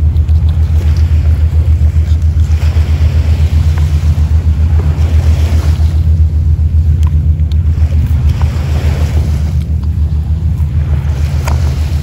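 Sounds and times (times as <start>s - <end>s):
throbbing low rumble: 0.0s - 12.0s.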